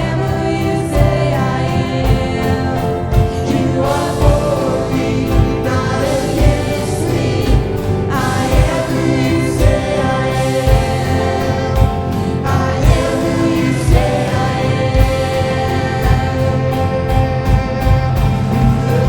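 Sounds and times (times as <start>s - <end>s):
voices singing: 0.0s - 19.0s
worship band playing: 0.0s - 19.0s
kick drum thumping: 1.0s - 15.4s, 16.0s - 19.0s.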